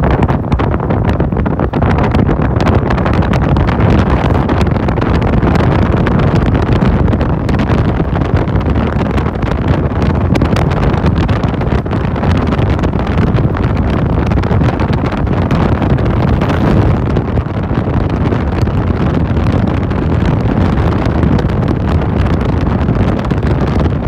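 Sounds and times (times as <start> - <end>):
road rumble: 0.0 - 24.0
wind buffeting microphone: 0.0 - 24.0.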